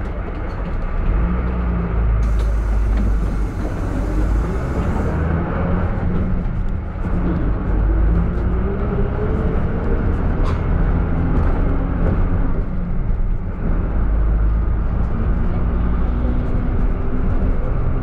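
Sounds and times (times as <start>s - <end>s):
minibus engine running: 0.0s - 18.0s.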